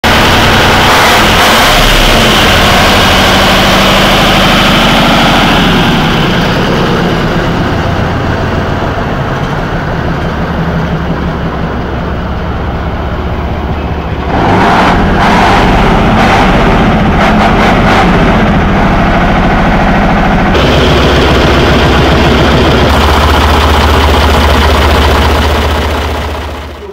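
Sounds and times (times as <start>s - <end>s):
engines rumbling: 0.0s - 26.9s.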